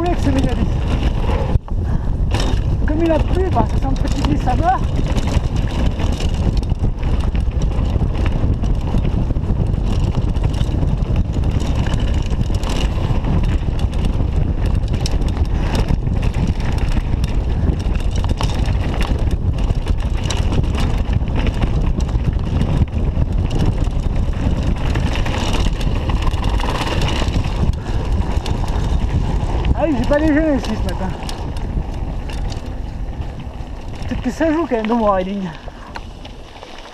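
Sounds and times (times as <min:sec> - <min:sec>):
bike rattling: 0:00.0 - 0:36.9
tyres on loose gravel: 0:00.0 - 0:36.9
wind rushing over microphone: 0:00.0 - 0:36.9.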